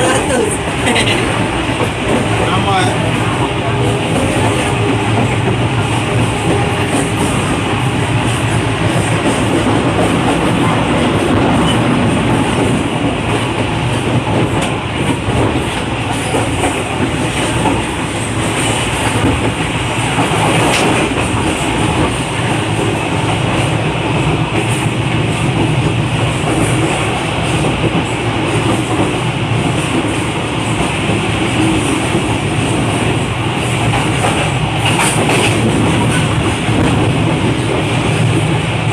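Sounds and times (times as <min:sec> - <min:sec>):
clickety-clack of rail joints: 0:00.0 - 0:38.9
train wheels rumbling on rails: 0:00.0 - 0:38.9.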